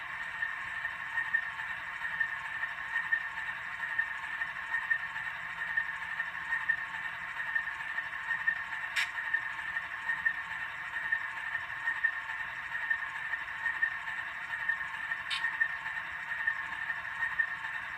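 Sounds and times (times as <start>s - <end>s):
model locomotive diesel idle: 0.0s - 17.9s.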